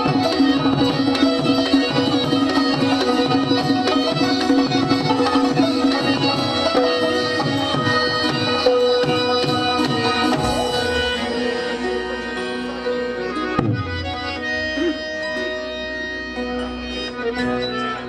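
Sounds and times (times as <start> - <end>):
held melodic tones: 0.0 - 18.0.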